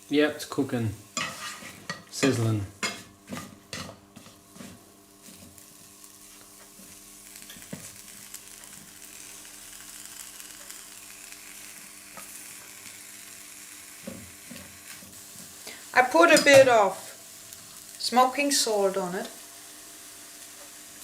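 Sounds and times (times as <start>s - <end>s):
mushrooms sizzling in a pan: 0.0s - 21.0s.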